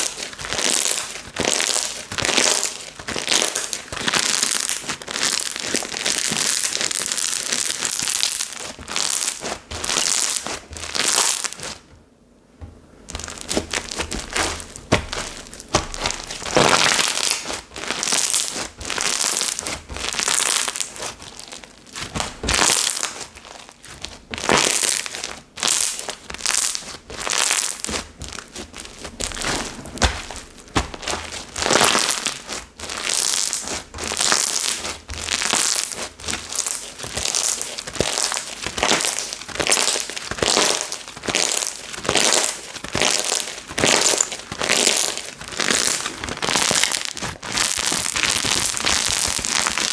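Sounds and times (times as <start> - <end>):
hands squishing slime: 0.0 - 11.8, 13.1 - 49.9.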